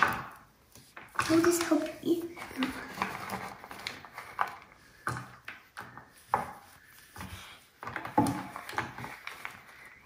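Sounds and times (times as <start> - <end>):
chocolate chunks knocking and clinking: 0.0 - 10.0.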